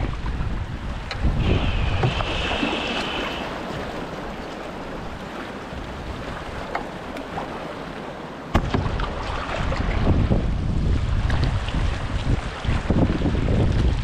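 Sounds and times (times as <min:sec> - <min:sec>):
water washing along canoe hull: 0:00.0 - 0:14.0
waves washing over rocks: 0:00.0 - 0:14.0
wind buffeting microphone: 0:00.0 - 0:14.0.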